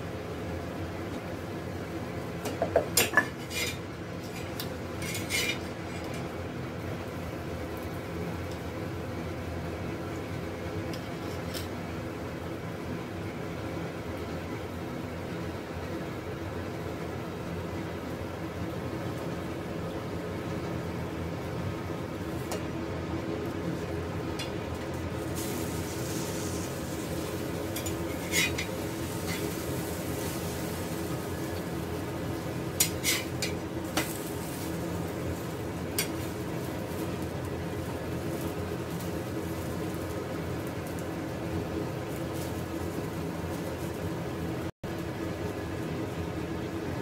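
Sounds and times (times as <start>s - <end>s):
kitchen background hum: 0.0s - 47.0s.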